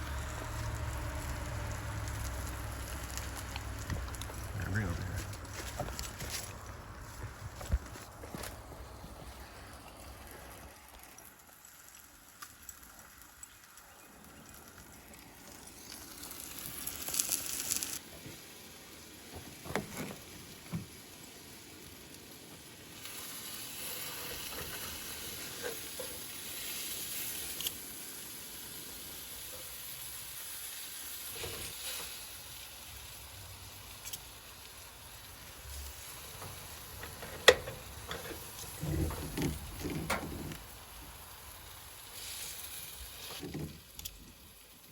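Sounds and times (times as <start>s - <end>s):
food sizzling in a skillet: 0.0s - 4.2s, 9.4s - 19.3s, 20.2s - 38.8s, 40.6s - 44.9s.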